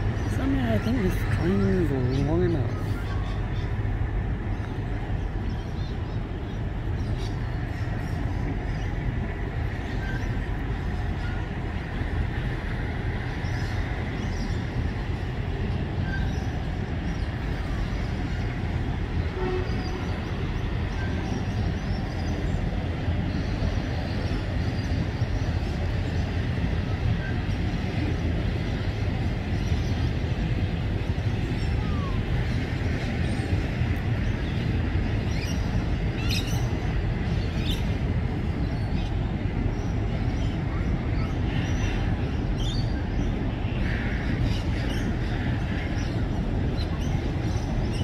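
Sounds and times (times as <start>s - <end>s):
train wheels rumbling over bridge: 0.0s - 48.0s.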